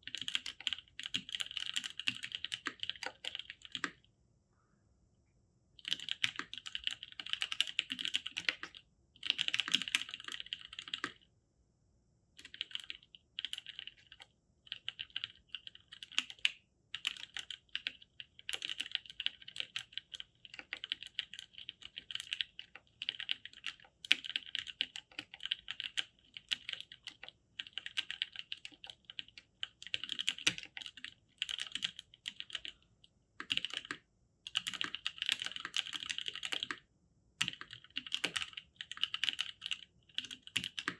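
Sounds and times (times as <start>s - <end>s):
mechanical keyboard typing: 0.0s - 4.0s, 5.8s - 11.2s, 12.4s - 32.8s, 33.4s - 36.8s, 37.4s - 40.9s.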